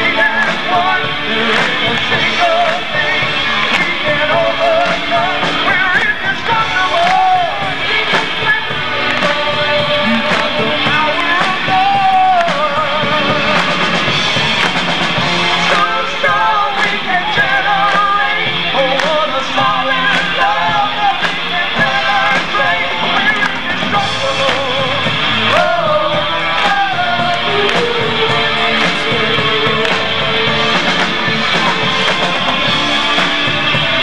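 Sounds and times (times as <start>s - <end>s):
drums: 0.0s - 34.0s
electric guitar: 0.0s - 34.0s
keyboards: 0.0s - 34.0s
voices singing: 0.0s - 34.0s.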